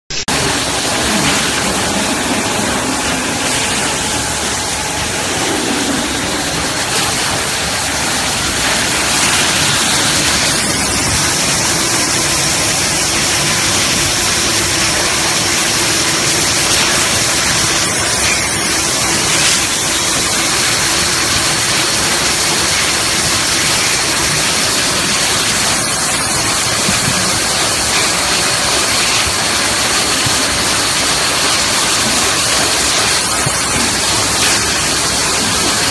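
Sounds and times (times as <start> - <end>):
machinery hissing and whirring: 0.1 - 35.9.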